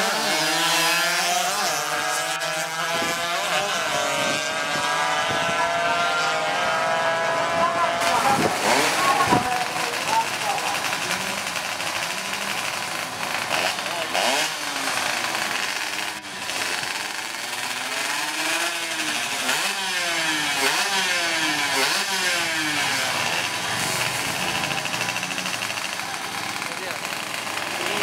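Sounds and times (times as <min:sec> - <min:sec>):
two-stroke bike engines revving: 0:00.0 - 0:28.0.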